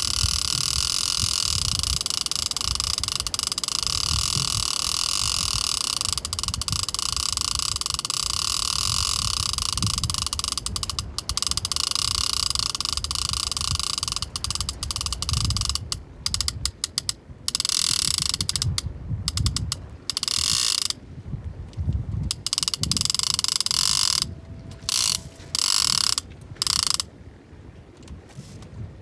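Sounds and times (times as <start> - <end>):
fishing reel ratchet buzzing: 0.0 - 21.0, 22.3 - 27.1.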